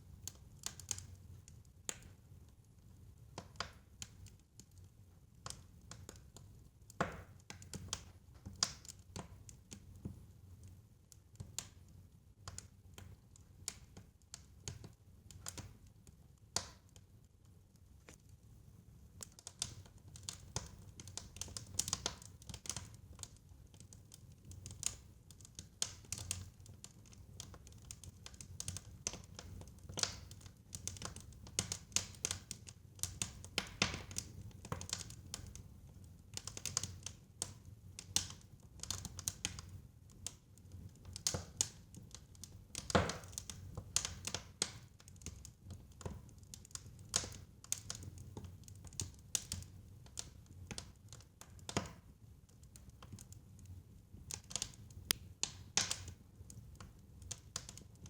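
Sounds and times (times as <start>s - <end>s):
fire crackling and popping: 0.1s - 58.0s.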